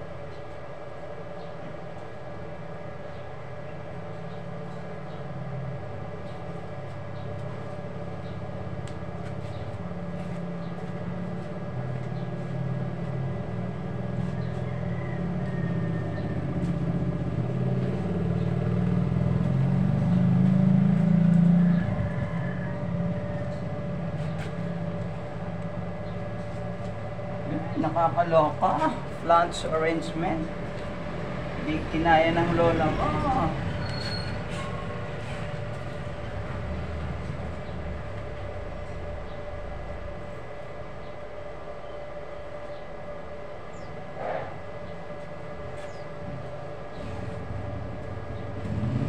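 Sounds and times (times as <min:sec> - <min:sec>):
steady hum: 0:00.0 - 0:49.0
vehicle engine rumbling: 0:00.0 - 0:49.0.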